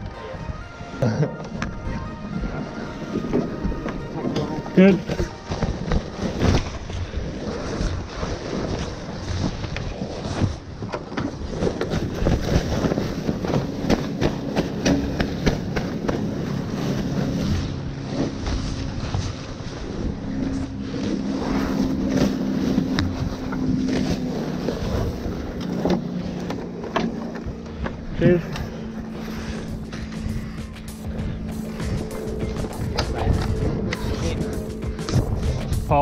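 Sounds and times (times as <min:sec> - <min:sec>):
sail cloth rustling and crackling: 0:00.0 - 0:36.0
steady low hum: 0:00.0 - 0:36.0
wind buffeting microphone: 0:00.0 - 0:36.0.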